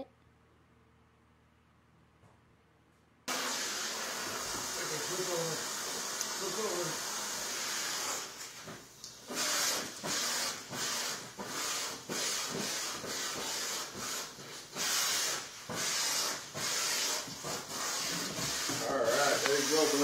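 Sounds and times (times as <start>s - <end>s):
vacuum cleaner suction hiss: 3.3s - 20.0s.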